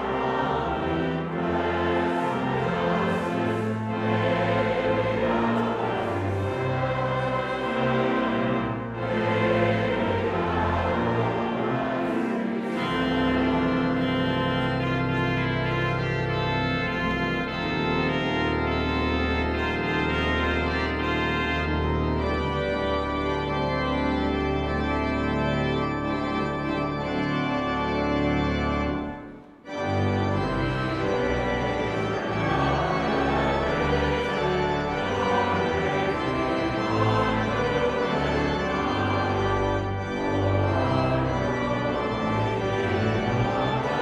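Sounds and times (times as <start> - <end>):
church organ playing a hymn: 0.0 - 44.0.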